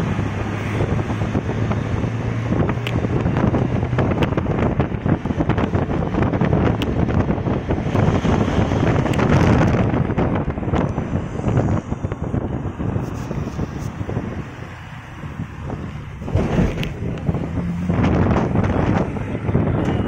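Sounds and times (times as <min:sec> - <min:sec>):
road traffic: 0:00.0 - 0:20.0
vehicle engine hum: 0:00.0 - 0:20.0
wind buffeting microphone: 0:00.0 - 0:20.0.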